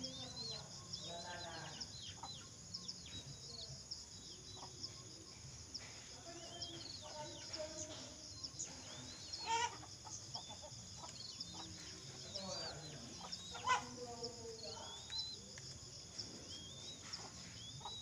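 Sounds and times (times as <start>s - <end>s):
birds calling and chirping: 0.0s - 18.0s.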